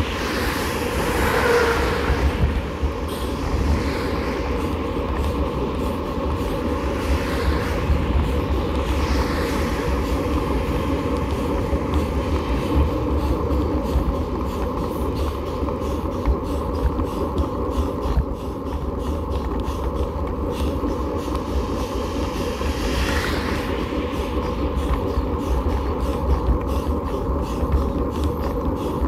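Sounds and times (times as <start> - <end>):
road vibration rumble: 0.0 - 29.0
wind on microphone: 0.0 - 29.0.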